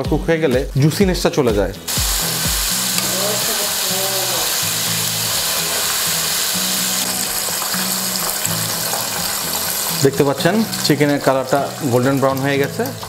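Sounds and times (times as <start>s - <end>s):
background music with bass: 0.0s - 13.0s
hot oil sizzling: 1.8s - 13.0s.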